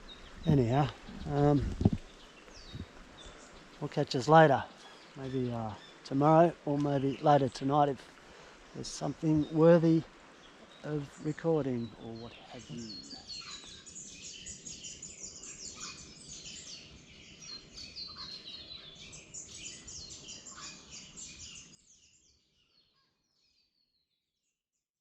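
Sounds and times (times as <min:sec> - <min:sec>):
low background hiss: 0:00.0 - 0:21.8
small birds chirping chorus: 0:00.0 - 0:24.2.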